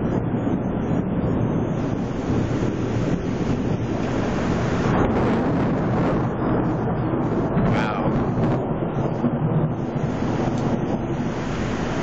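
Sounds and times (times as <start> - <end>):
thunder rumbling: 0.0 - 12.0
rain hissing: 0.5 - 12.0.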